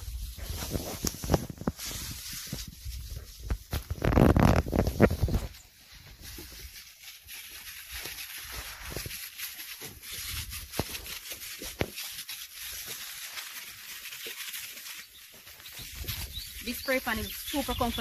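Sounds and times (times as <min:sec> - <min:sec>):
footsteps through leafy plants: 0:00.0 - 0:18.0.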